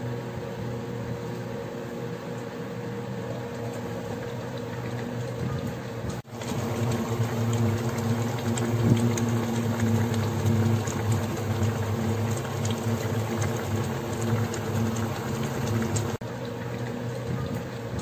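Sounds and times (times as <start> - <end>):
soup boiling in a steel pot: 0.7 - 18.0.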